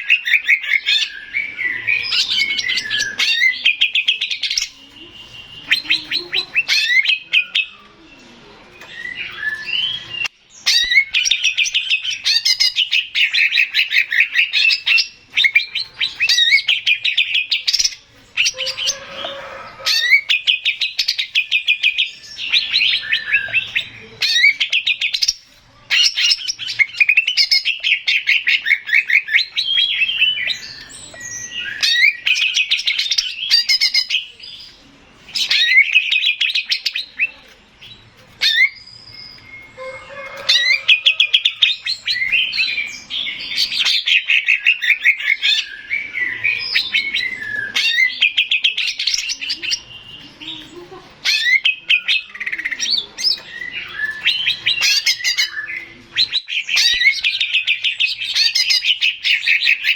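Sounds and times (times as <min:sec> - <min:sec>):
bird singing high chattering phrases: 0:00.0 - 0:59.9.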